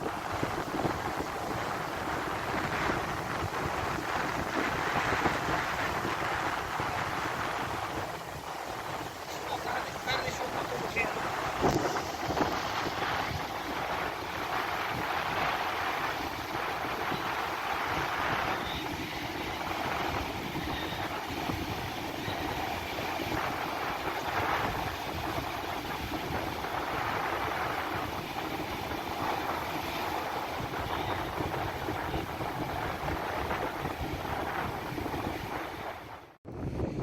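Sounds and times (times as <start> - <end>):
surf breaking: 0.0 - 36.0
strong wind buffeting microphone: 0.0 - 37.0.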